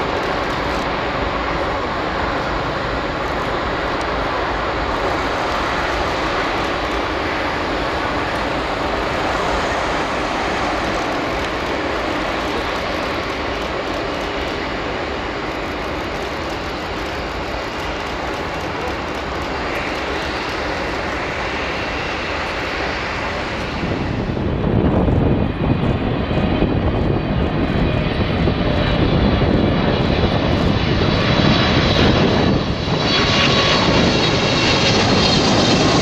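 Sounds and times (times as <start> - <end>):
jet engines taxiing: 0.0 - 36.0.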